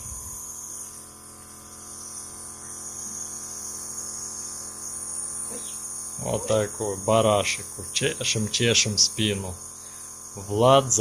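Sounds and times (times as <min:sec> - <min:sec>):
nebulizer compressor humming: 0:00.0 - 0:11.0.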